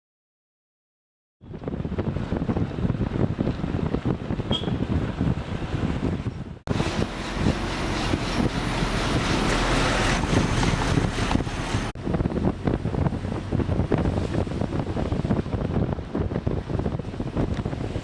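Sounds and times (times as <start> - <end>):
wind buffeting microphone: 1.4 - 18.0.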